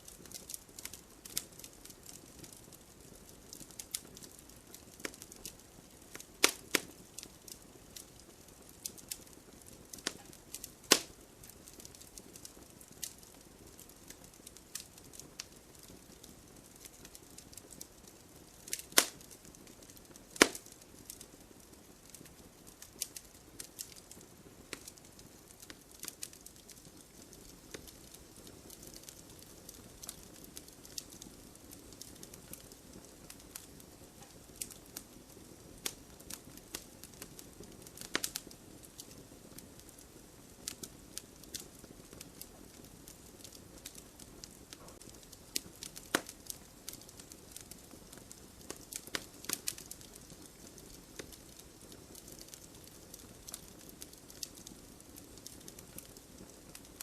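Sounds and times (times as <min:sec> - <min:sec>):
soft steady hiss: 0:00.0 - 0:57.0
wood fire crackling: 0:00.0 - 0:57.0.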